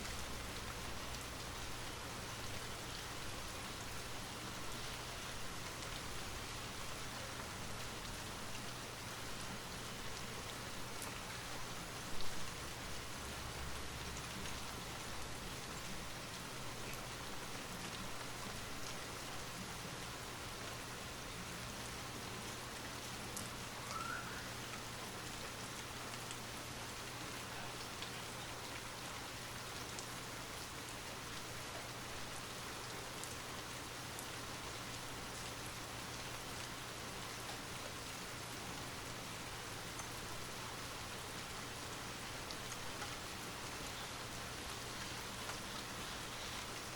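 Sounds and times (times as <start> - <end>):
light rain falling: 0.0 - 46.9.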